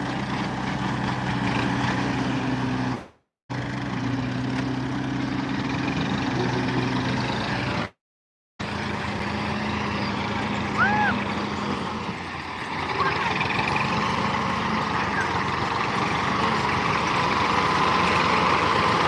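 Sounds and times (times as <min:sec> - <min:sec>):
diesel engines running: 0:00.0 - 0:08.0, 0:08.6 - 0:19.0.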